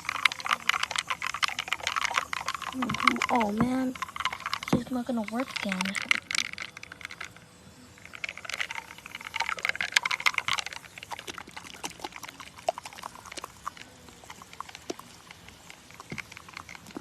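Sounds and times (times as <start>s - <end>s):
cola fizzing in a can: 0.0s - 17.0s.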